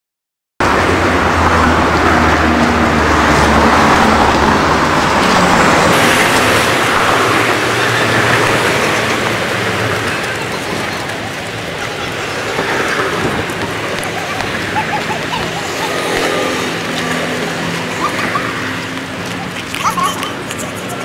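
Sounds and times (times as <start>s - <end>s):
low engine hum: 0.6s - 21.0s
road traffic noise: 0.6s - 21.0s.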